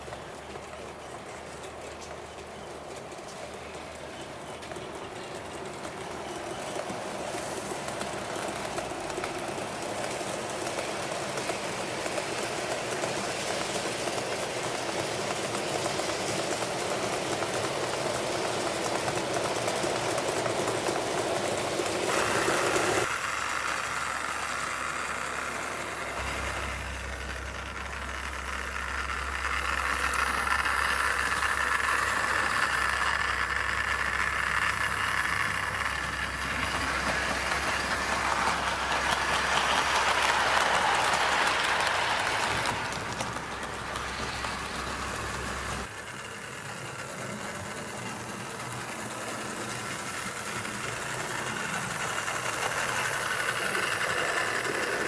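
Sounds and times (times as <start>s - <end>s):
model train running on track: 0.0s - 55.0s.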